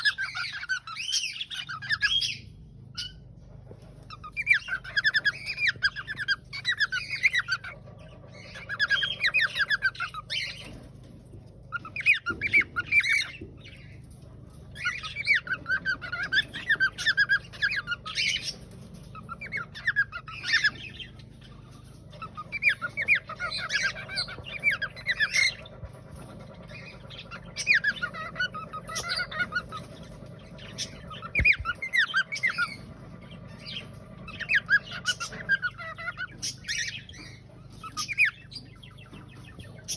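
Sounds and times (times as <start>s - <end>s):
cockatiel singing: 0.0s - 39.9s.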